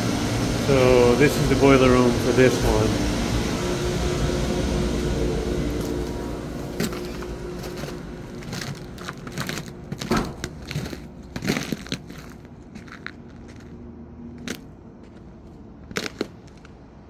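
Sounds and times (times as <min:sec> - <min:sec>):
mechanical equipment hum: 0:00.0 - 0:17.0.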